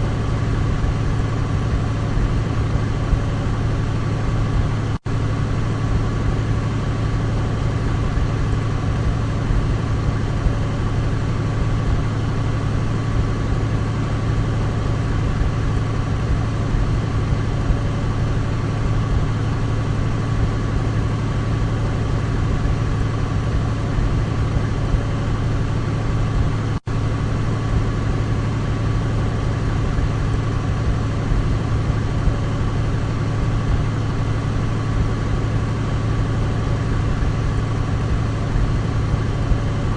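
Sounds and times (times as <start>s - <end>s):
piston aircraft engines droning: 0.0s - 39.9s.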